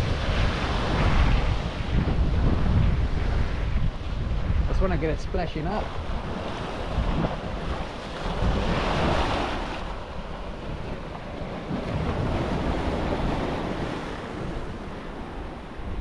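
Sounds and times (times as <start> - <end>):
small waves lapping on shore: 0.0 - 16.0
wind rumbling on microphone: 0.0 - 16.0.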